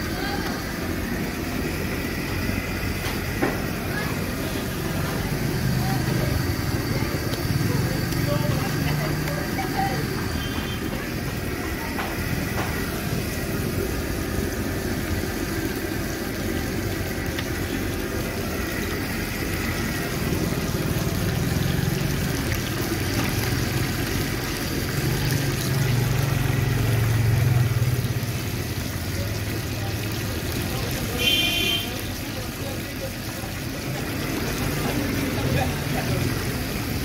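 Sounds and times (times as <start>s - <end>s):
steady background noise: 0.0s - 37.0s
vehicle engine running: 0.0s - 37.0s.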